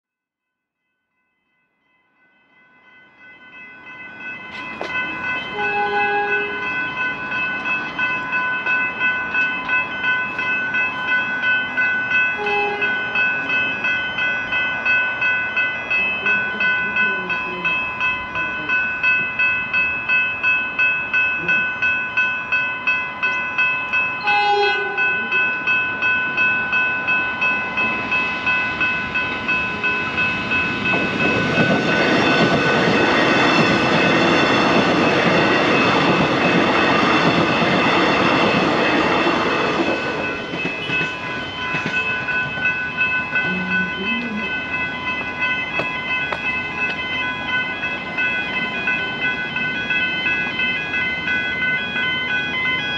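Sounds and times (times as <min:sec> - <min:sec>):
level crossing bells ringing: 0:01.6 - 0:52.9
train rumble and wheel noise: 0:03.1 - 0:52.9.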